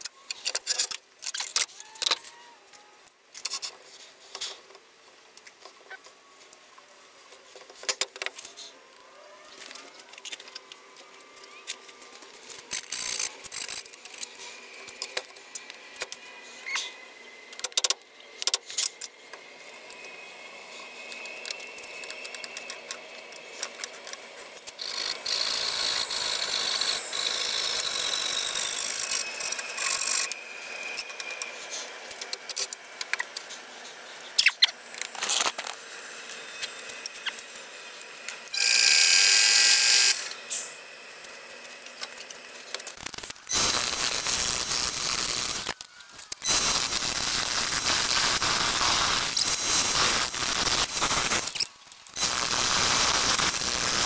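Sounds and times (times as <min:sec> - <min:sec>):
high mechanical whine: 0:08.2 - 0:54.0.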